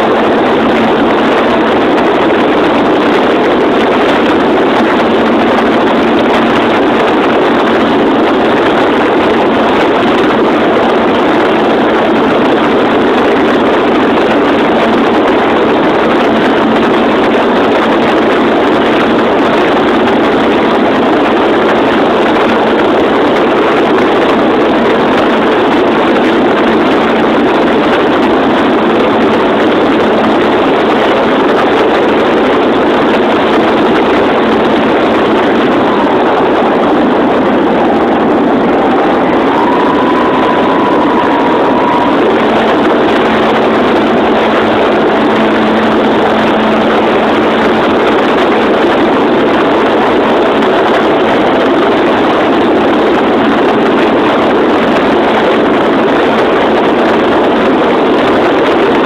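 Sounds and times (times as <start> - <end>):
faint whine: 0.0 - 59.0
wind over microphone: 0.0 - 59.0.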